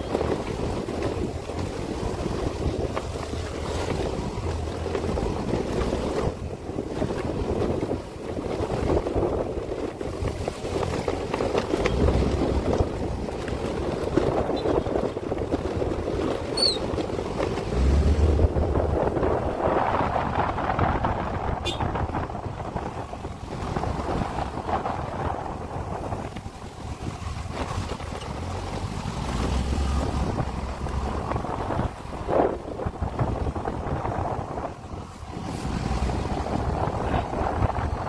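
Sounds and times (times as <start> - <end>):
road noise: 0.0 - 38.0
wind buffeting microphone: 0.0 - 38.0.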